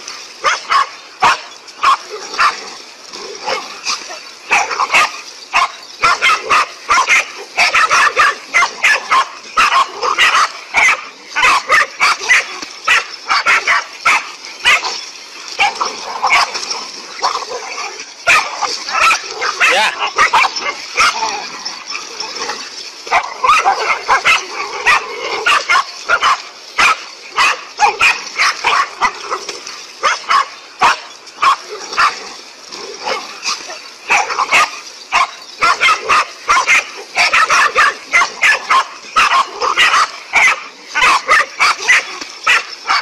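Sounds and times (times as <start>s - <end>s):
dogs barking rapidly: 0.0s - 43.0s
dogs yipping: 0.2s - 43.0s.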